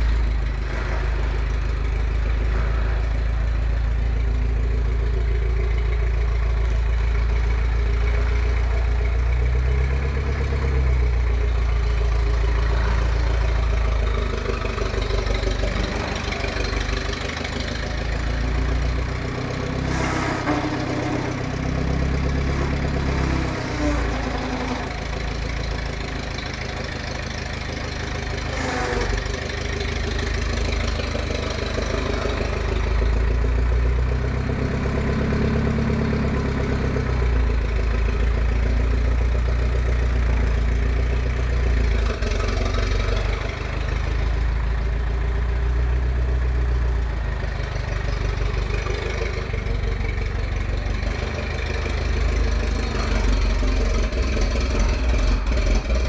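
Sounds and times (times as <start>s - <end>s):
forklift engine rumbling: 0.0s - 56.0s.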